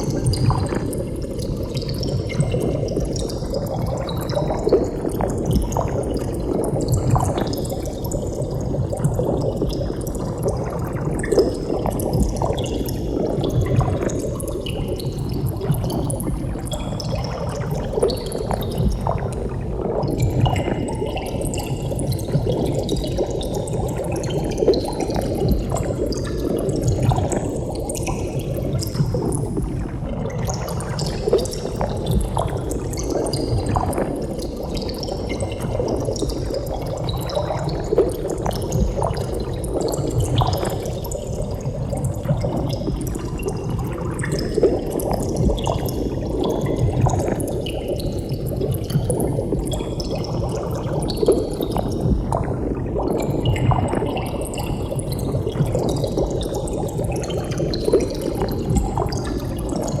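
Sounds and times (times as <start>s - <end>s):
water bubbling: 0.0s - 60.0s.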